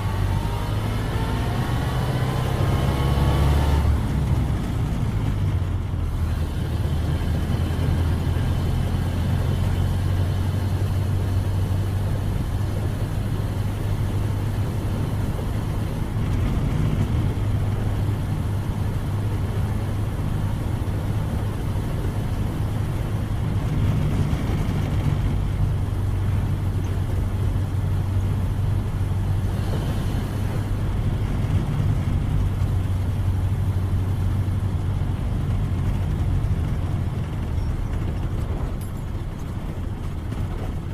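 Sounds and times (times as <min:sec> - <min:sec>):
car engine humming: 0:00.0 - 0:40.9
road noise: 0:00.0 - 0:40.9.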